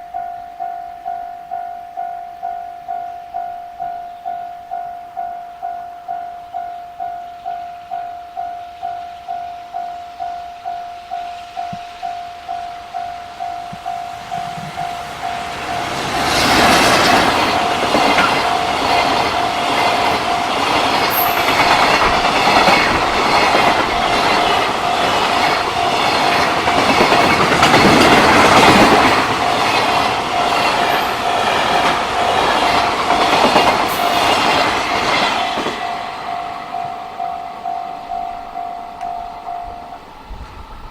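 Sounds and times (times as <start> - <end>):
freight train passing: 0.0 - 40.9
level crossing warning bell: 0.0 - 40.9.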